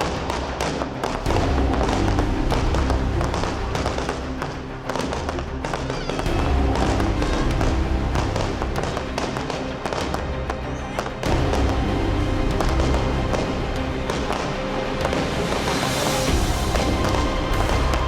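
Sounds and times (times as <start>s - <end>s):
music with steady bass: 0.0s - 18.0s.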